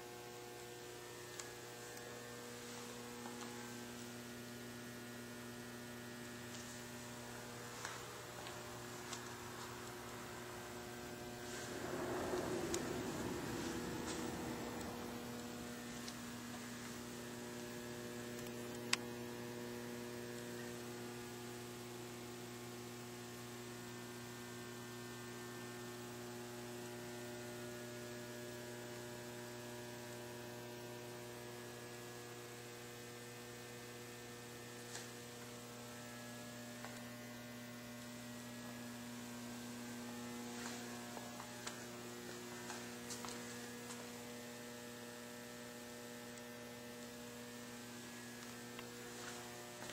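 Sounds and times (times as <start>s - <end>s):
electrical mains hum: 0.0s - 49.9s.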